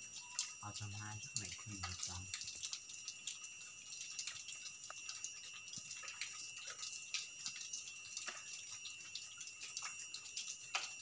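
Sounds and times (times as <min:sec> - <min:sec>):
faint ticks and drips: 0:00.0 - 0:11.0
high insect drone: 0:00.0 - 0:11.0.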